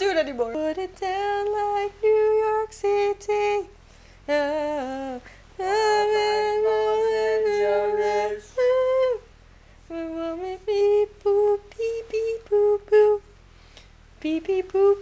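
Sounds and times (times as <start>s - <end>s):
woman singing wordless tune: 0.0s - 13.4s, 14.1s - 15.0s.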